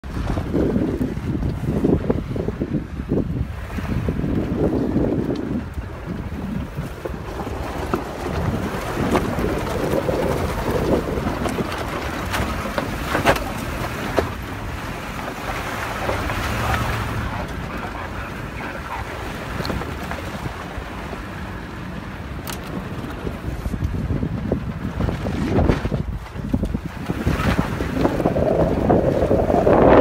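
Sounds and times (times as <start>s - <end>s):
vehicle rumbling on dirt trail: 0.0s - 30.0s
wind buffeting microphone: 0.0s - 30.0s.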